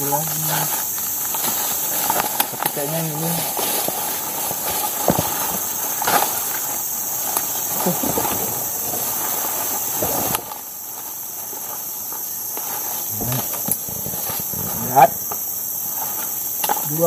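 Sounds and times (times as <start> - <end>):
footsteps through leafy undergrowth: 0.0 - 17.0
insects buzzing: 0.0 - 17.0.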